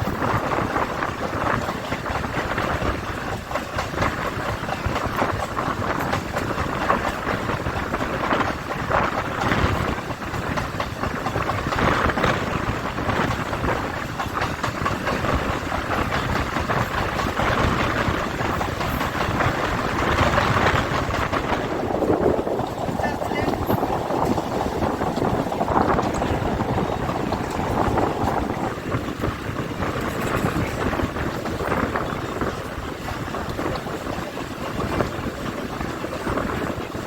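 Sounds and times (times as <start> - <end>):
train wheels rumbling and rattling: 0.0 - 37.0.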